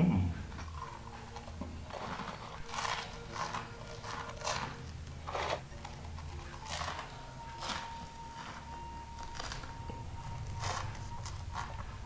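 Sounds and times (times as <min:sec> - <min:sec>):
crunchy snacks being chewed: 0:00.5 - 0:12.0.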